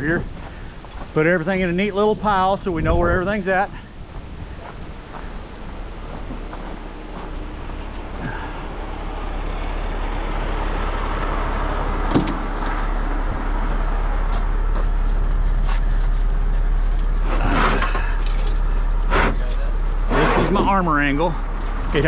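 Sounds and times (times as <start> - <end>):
diesel truck engine running: 3.4 - 22.0.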